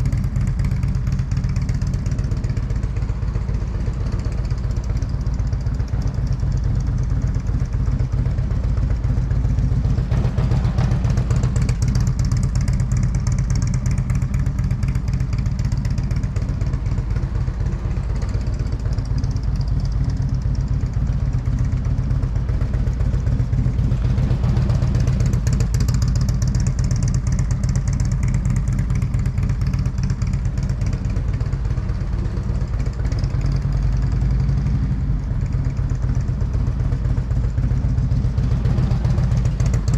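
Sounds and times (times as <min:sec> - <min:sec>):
motorcycle engine low rumble: 0:00.0 - 0:39.9.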